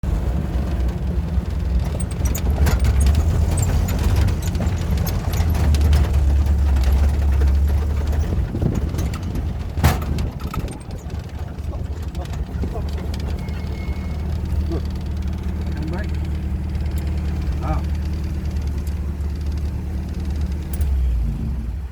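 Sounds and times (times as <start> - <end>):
off-road vehicle rumbling: 0.0 - 21.9
rattles and knocks: 0.1 - 20.9.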